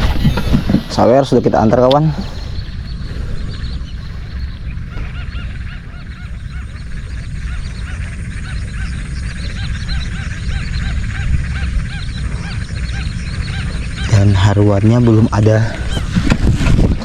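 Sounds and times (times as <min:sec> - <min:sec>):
chorus of animal calls: 0:00.0 - 0:17.0
steady low rumble: 0:00.0 - 0:17.0.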